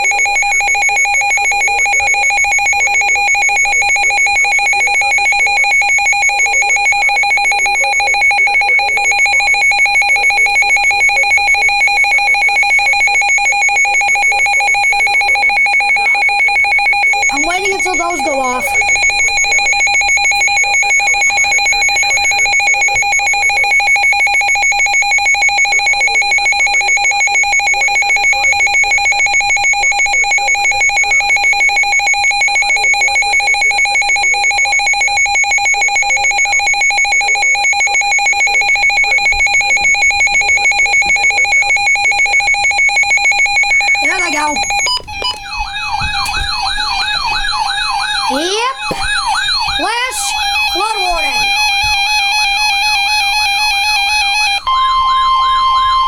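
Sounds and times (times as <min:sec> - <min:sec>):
loud steady electronic alert tone: 0:00.0 - 0:56.0
warbling siren-like tone: 0:00.0 - 0:56.0.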